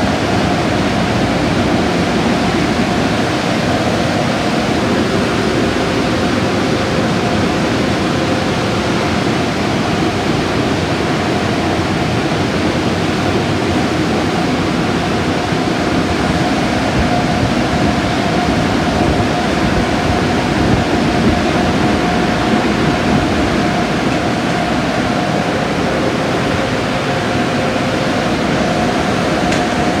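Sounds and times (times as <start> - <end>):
car wash rushing noise: 0.0 - 30.0
faint machine hum: 0.0 - 30.0
thin constant whine: 0.0 - 30.0.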